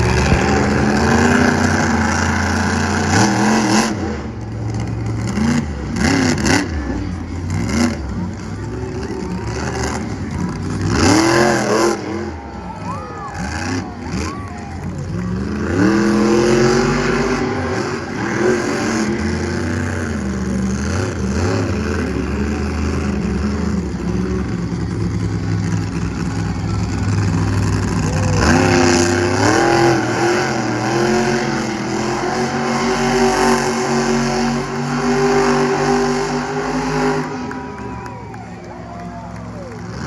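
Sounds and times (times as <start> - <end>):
monster truck engine revving high: 0.0 - 40.0.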